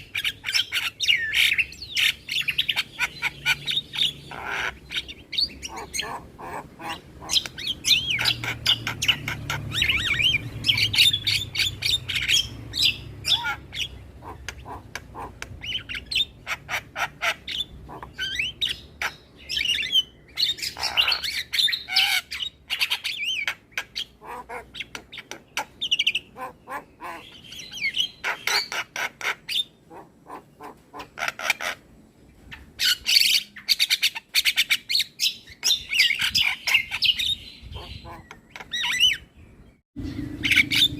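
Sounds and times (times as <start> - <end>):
myna bird chattering song: 0.0 - 40.9.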